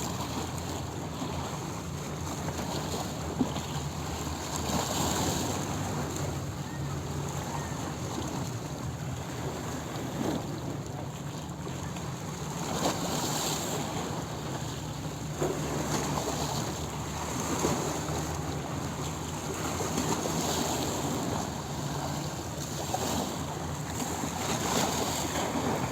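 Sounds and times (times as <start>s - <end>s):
sea waves breaking on a beach: 0.0s - 25.9s.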